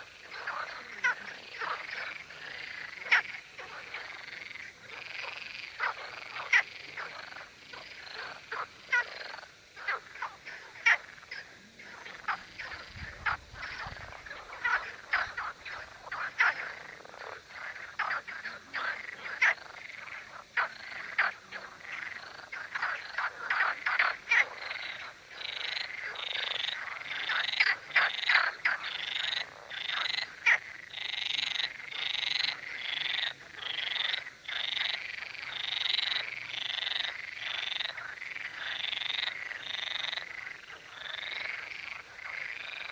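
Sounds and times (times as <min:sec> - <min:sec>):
chorus of frogs croaking: 0:00.0 - 0:42.9.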